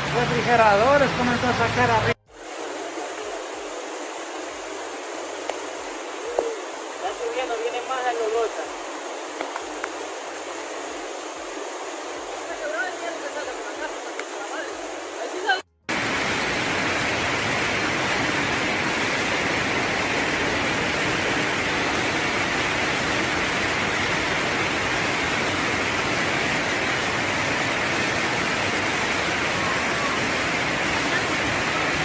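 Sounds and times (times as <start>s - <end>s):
floodwater rushing: 0.0s - 32.0s.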